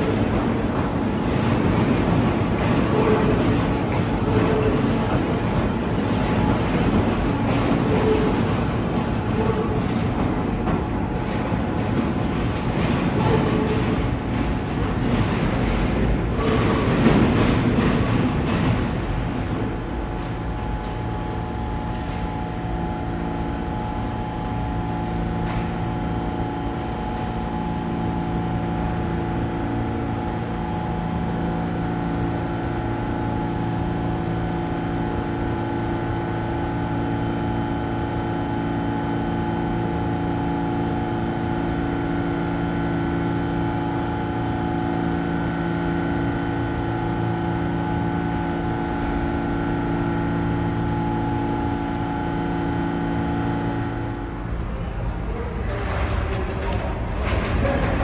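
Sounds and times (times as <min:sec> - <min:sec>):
subway train equipment hum: 0:00.0 - 0:58.0.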